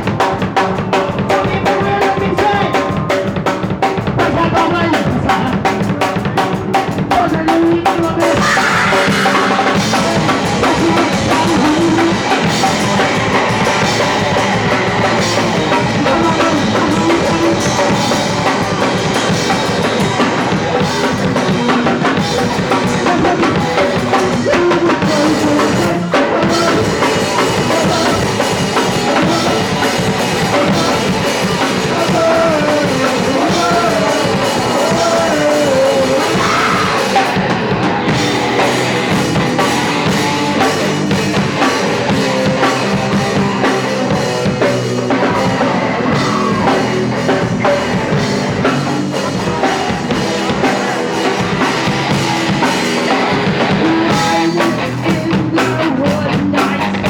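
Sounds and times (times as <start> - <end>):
punk rock band playing: 0.0 - 57.0
shouted singing: 4.1 - 57.0.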